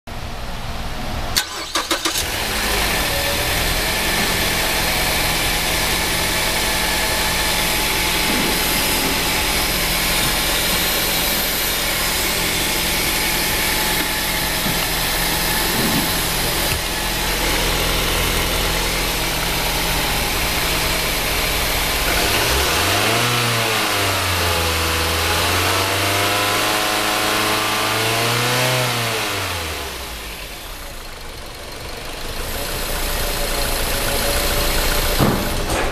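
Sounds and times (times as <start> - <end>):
engine idling: 0.2 - 25.4, 29.4 - 35.9
car engine starting: 0.2 - 35.9
engine revving: 1.4 - 31.0, 32.1 - 35.9.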